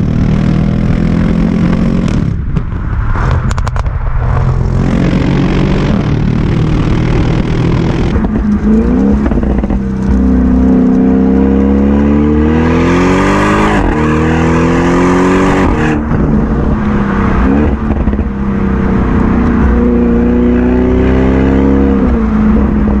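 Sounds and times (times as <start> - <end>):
car engine accelerating hard: 3.2 - 23.0.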